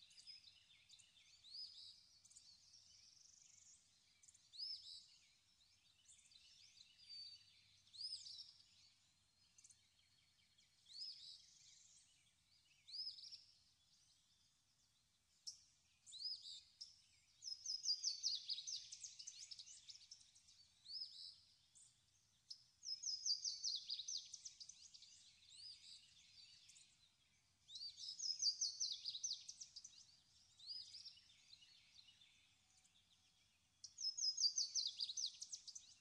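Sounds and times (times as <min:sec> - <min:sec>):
songbird singing: 0:00.0 - 0:36.0.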